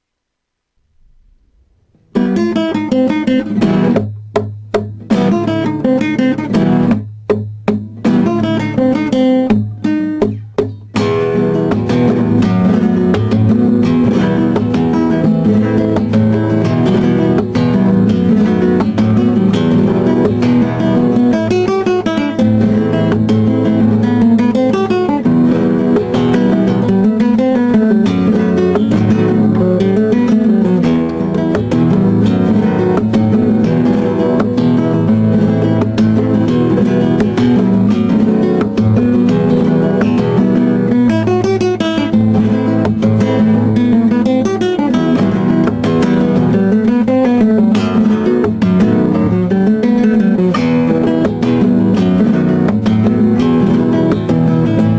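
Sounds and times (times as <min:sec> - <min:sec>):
flamenco acoustic guitar: 0:00.8 - 0:54.9.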